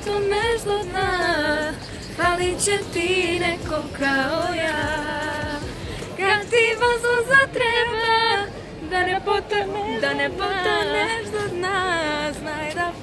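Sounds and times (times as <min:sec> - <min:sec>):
women singing unaccompanied: 0:00.0 - 0:13.0.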